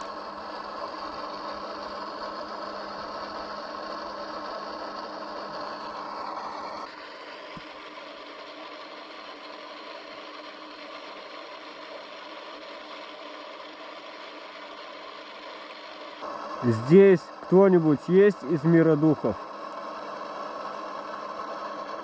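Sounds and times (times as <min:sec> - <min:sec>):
faint hum: 0:00.0 - 0:22.0
static hiss: 0:00.0 - 0:22.0.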